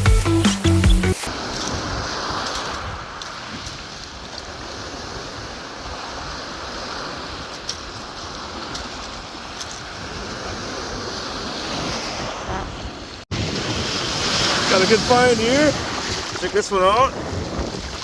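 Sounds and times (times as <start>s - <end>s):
waves washing onto stony beach: 1.2s - 18.0s
wind buffeting microphone: 1.3s - 18.0s.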